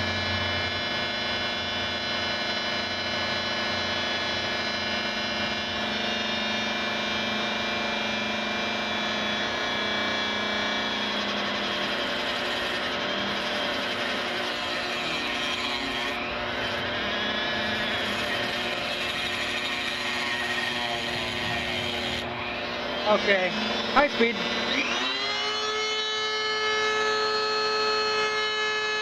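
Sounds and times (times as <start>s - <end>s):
rotary tool grinding metal: 0.0s - 29.0s.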